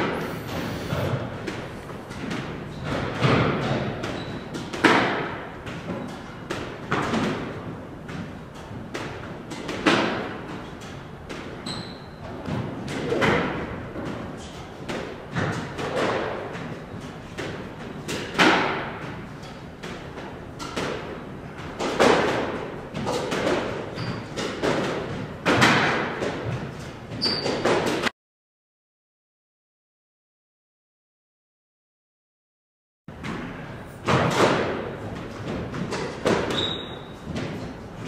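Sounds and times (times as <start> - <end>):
rackets striking squash ball: 0.0 - 28.1, 33.1 - 37.9.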